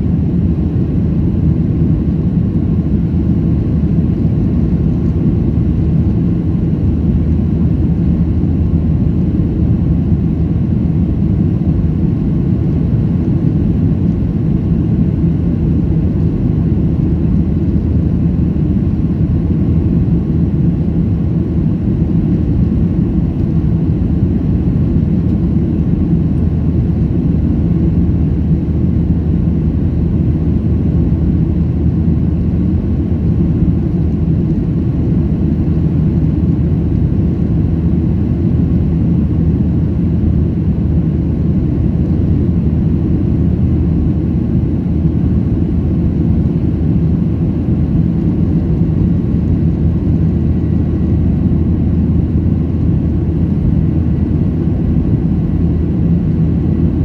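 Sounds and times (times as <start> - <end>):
jet engine drone: 0.0 - 57.0.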